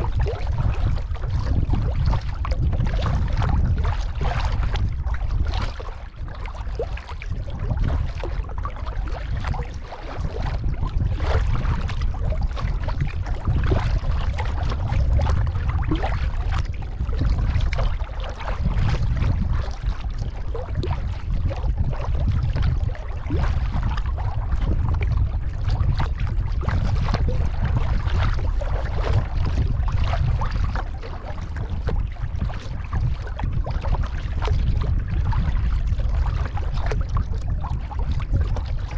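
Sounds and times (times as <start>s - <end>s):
paddle strokes splashing water: 0.0s - 38.9s
wind rumble on microphone: 0.0s - 38.9s.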